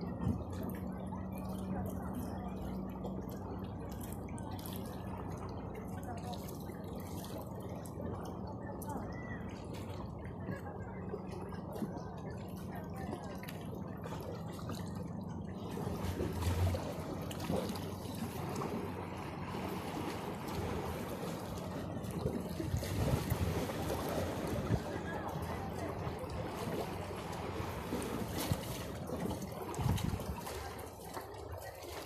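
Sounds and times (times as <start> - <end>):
water lapping among rocks: 0.0 - 32.0.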